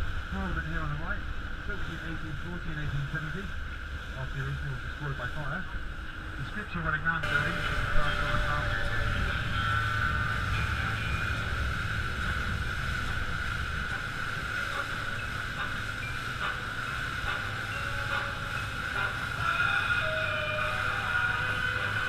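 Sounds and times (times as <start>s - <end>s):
speedboat engine rumble: 0.0s - 22.0s
water rushing along hull: 0.0s - 22.0s.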